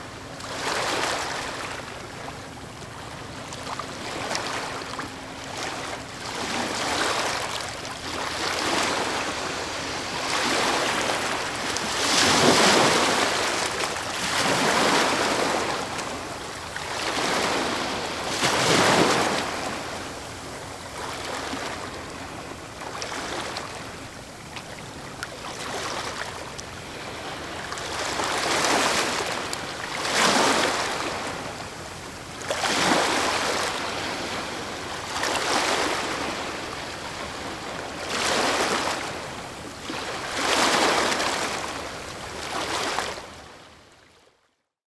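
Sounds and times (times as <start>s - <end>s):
ocean waves breaking on shore: 0.0s - 43.8s.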